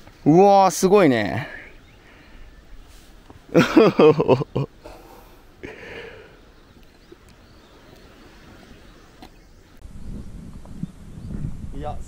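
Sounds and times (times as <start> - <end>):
faint open-air background: 0.0 - 12.0.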